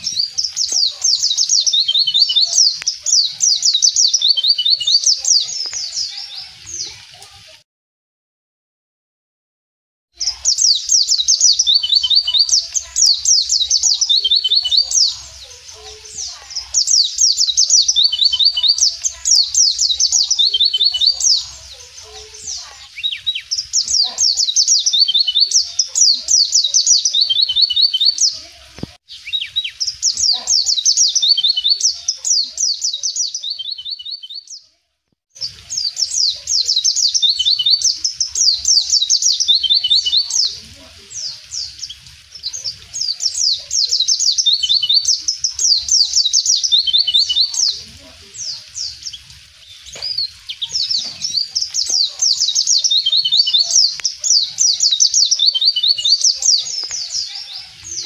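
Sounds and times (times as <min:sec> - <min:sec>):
bird high twittering song: 0:00.0 - 0:07.6, 0:10.2 - 0:34.8, 0:35.4 - 0:58.0.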